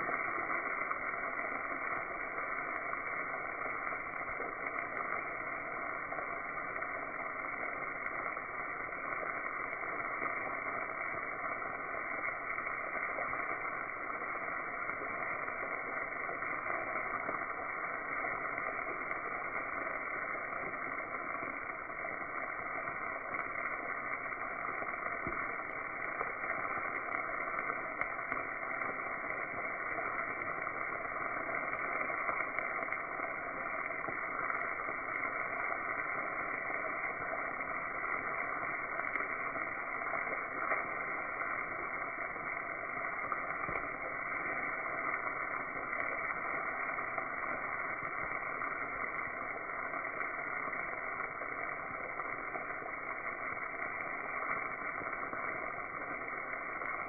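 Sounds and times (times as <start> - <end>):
mushrooms frying in fat: 0.0 - 57.0.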